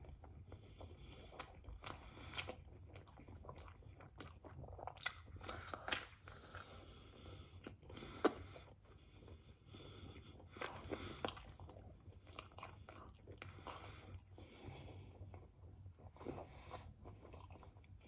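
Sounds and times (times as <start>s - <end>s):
pizza being bitten and chewed: 0.0s - 18.0s.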